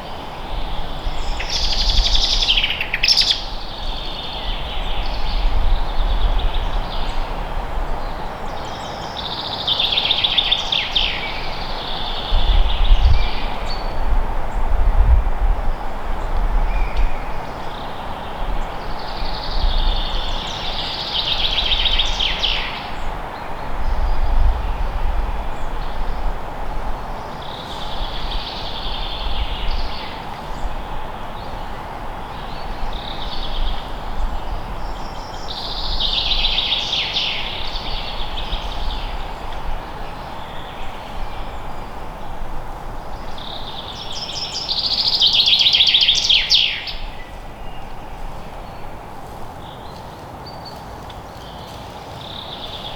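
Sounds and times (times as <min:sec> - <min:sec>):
songbird singing with trills: 0:00.0 - 0:14.1, 0:16.2 - 0:23.2, 0:27.2 - 0:42.2, 0:43.1 - 0:50.8.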